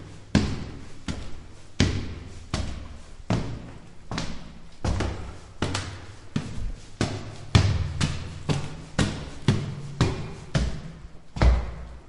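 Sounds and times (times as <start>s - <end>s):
footsteps climbing stairs: 0.0s - 12.0s.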